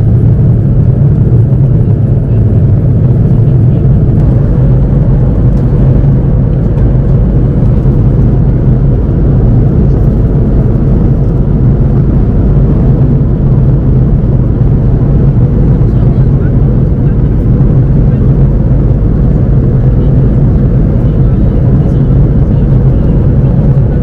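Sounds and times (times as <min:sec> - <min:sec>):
airplane cabin drone: 0:00.0 - 0:24.0
rush of airflow and engines: 0:00.0 - 0:24.0.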